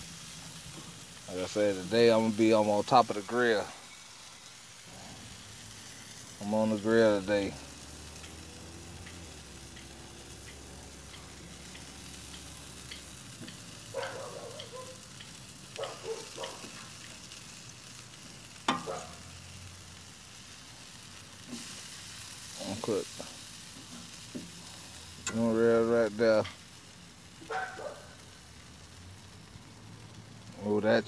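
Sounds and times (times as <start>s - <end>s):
meat sizzling on a grill: 0.0s - 31.0s.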